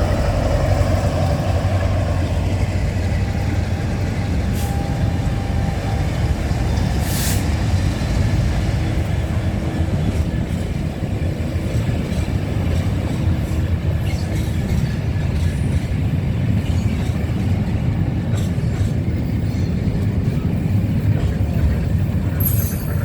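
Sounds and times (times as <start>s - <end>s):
train rumbling by: 0.0s - 23.0s.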